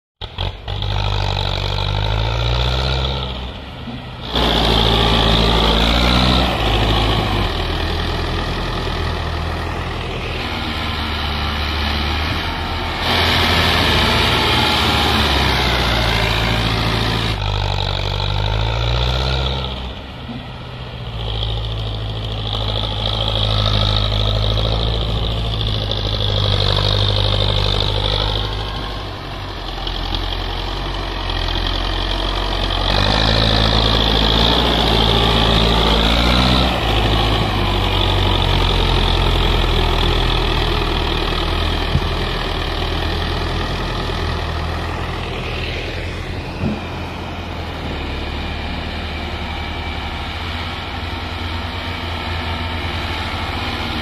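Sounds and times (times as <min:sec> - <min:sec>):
tractor engines working hard: 0:00.2 - 0:54.0.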